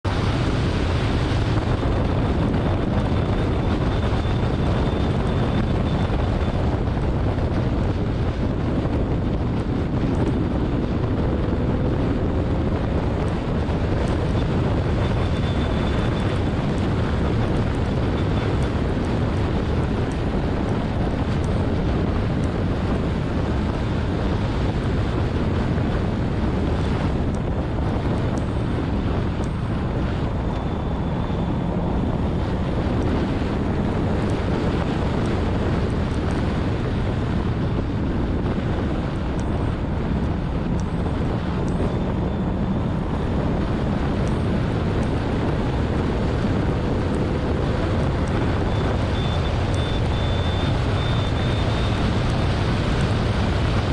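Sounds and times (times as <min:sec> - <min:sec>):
road and tyre noise: 0:00.0 - 0:53.9
wind rushing over microphone: 0:00.0 - 0:53.9.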